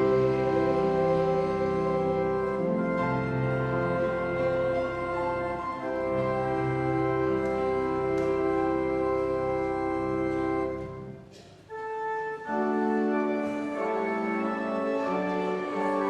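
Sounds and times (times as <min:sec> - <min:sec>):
church organ playing: 0:00.0 - 0:16.0.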